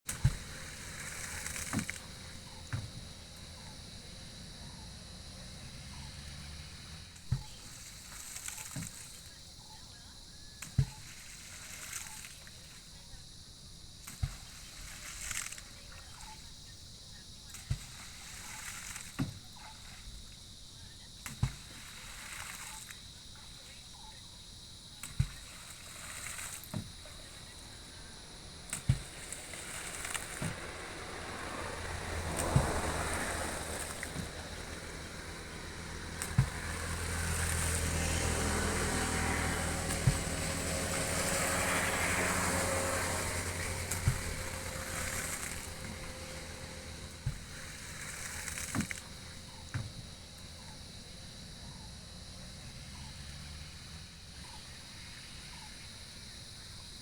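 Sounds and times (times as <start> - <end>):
water sloshing around canoe: 0.1 - 4.8, 5.5 - 13.2, 13.9 - 51.0.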